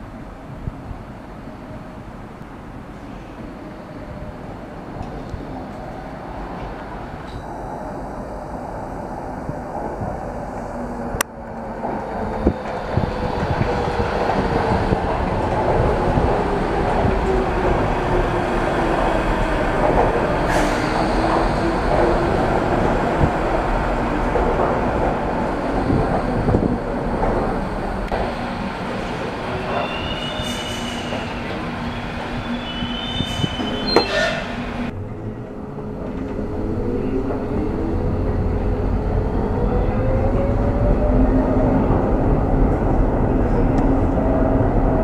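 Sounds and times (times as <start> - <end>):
wheel and rail rumble: 4.2 - 45.0.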